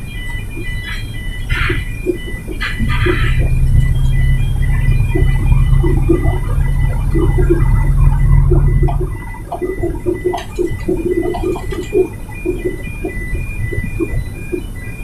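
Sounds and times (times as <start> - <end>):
diesel truck engine rumble: 0.0 - 15.0
high repeating beep: 0.0 - 15.0
short lower blips: 0.6 - 15.0.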